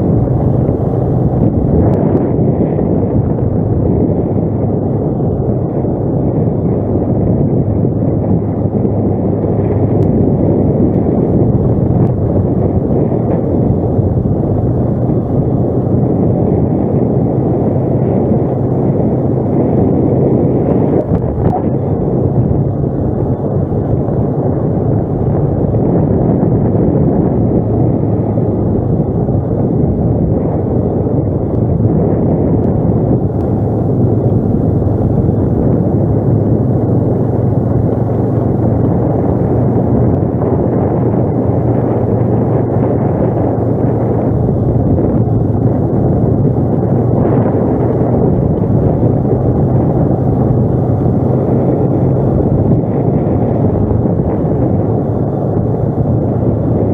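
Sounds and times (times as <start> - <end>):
atv engine running: 0.0 - 56.9
rough ride noise: 0.0 - 56.9.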